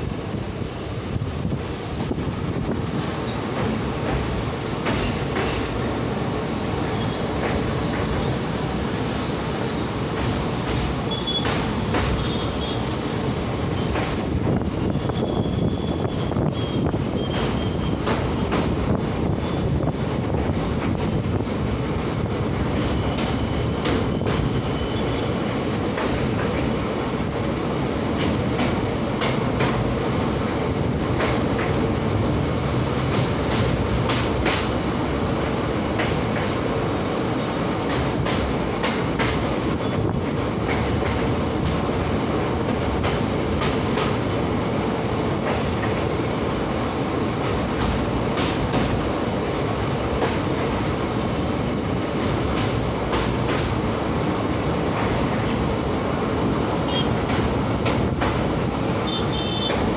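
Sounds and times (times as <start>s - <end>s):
train wheels rumbling on rails: 0.0s - 59.9s
rail joint clicks: 1.4s - 59.9s.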